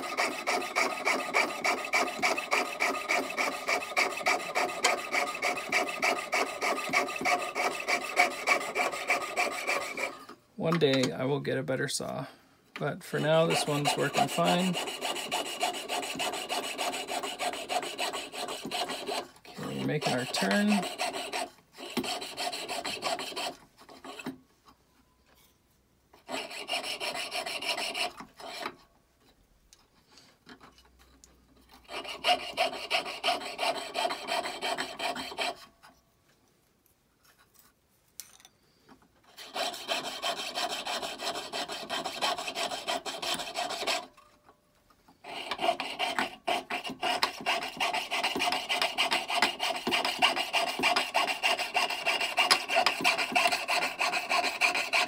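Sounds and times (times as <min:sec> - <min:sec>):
saw rasping through metal: 0:00.0 - 0:11.0, 0:13.0 - 0:24.4, 0:26.2 - 0:28.8, 0:31.6 - 0:35.9, 0:39.2 - 0:44.3, 0:45.2 - 0:55.0.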